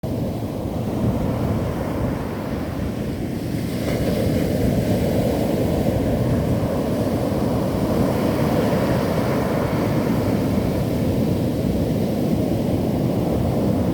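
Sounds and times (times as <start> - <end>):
wind rumble on microphone: 0.0 - 13.9.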